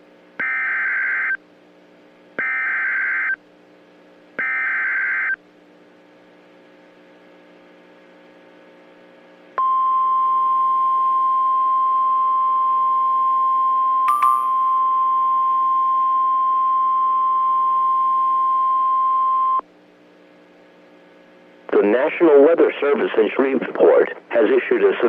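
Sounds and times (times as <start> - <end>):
faint low hum: 0.1 - 25.0.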